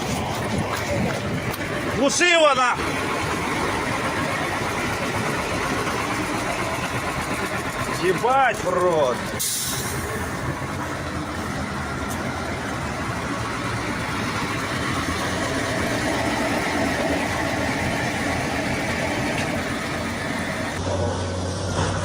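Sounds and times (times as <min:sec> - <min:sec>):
heavy vehicle engine running: 0:00.0 - 0:22.0.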